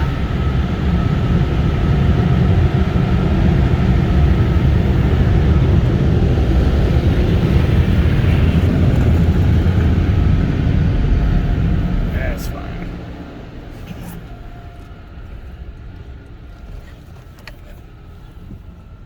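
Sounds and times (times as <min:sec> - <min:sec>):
car wash machinery roaring: 0:00.0 - 0:19.0.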